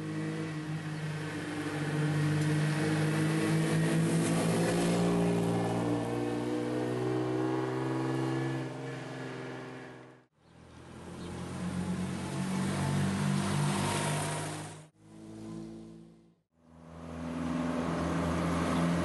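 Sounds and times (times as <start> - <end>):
sports car engine passing close: 0.0 - 10.2, 10.8 - 19.0.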